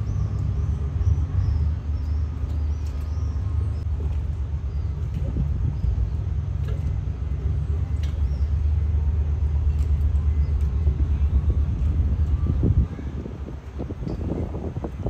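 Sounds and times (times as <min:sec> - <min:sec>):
engine machinery rumble: 0:00.0 - 0:15.0.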